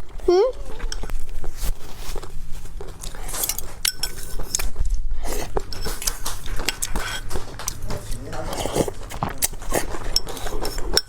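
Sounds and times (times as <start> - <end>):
utensils clinking on a dish: 0.0 - 2.1, 2.8 - 11.0
chewing: 0.0 - 11.0.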